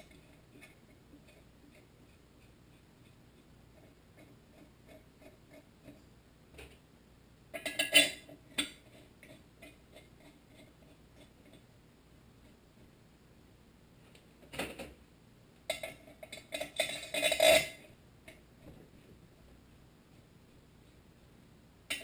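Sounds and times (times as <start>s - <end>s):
faint steady ticking: 0.0s - 14.3s, 15.1s - 22.0s.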